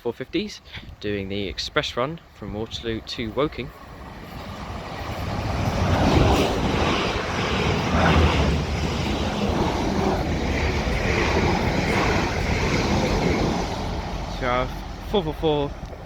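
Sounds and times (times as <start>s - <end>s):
train running past: 1.5s - 16.0s.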